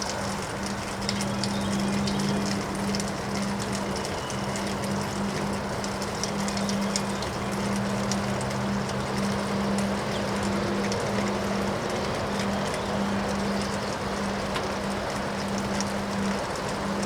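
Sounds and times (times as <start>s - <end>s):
rain ticks: 0.0s - 17.0s.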